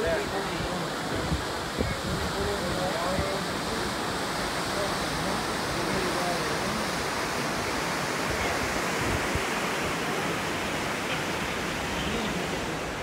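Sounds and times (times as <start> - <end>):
ship wake water rushing: 0.0 - 13.0
wind buffeting microphone: 0.0 - 13.0.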